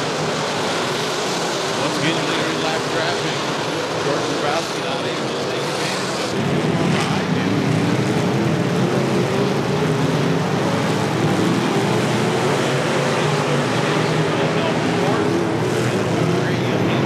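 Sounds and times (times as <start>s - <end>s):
race car engines at high revs: 0.0s - 17.0s.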